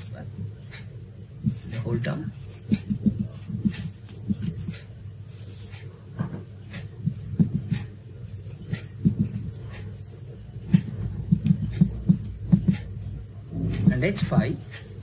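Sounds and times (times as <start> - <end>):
marker writing on whiteboard: 0.0 - 15.0.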